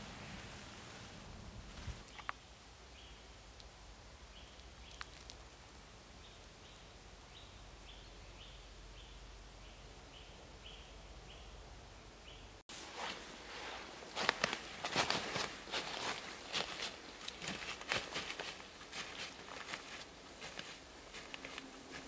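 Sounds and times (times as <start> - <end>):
soft background hiss: 0.0 - 22.0.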